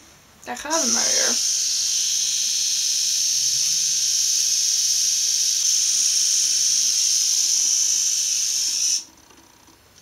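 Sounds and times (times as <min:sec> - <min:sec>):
electric trimmer buzzing: 0:00.7 - 0:09.1.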